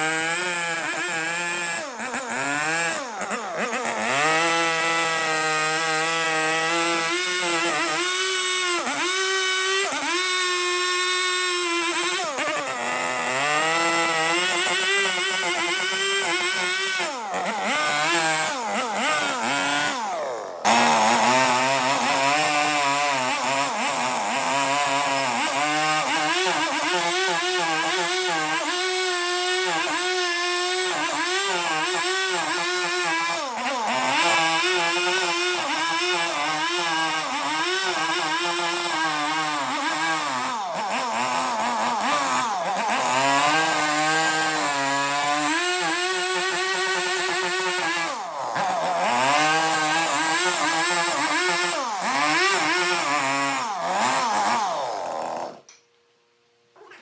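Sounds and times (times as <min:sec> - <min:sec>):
power tool motor on wood: 0:00.0 - 0:55.8.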